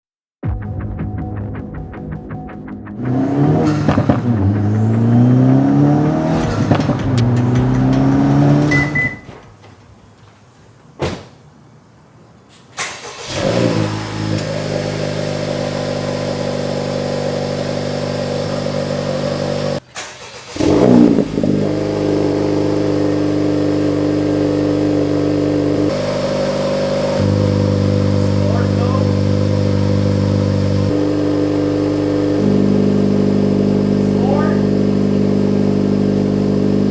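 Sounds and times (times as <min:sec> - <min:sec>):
car engine revving and idling: 0:02.9 - 0:09.5, 0:13.0 - 0:36.9.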